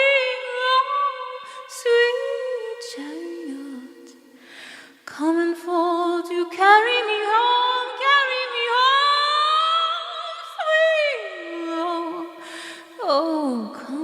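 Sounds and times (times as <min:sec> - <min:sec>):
a cappella voices in harmony: 0:00.0 - 0:14.0.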